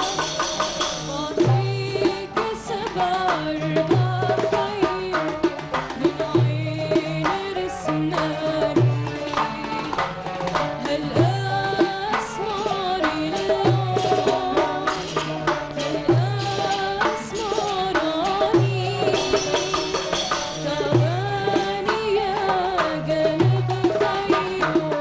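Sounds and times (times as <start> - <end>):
deep hand drum beat: 0.0 - 25.0
plucked string instruments: 0.0 - 25.0
woman singing: 0.0 - 25.0.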